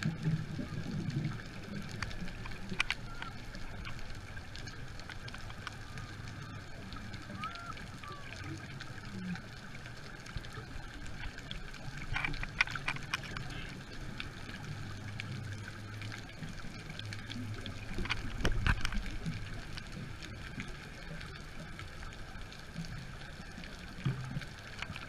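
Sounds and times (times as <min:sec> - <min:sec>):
low underwater hum: 0:00.0 - 0:25.0
underwater clicking and bubbling: 0:00.0 - 0:25.0.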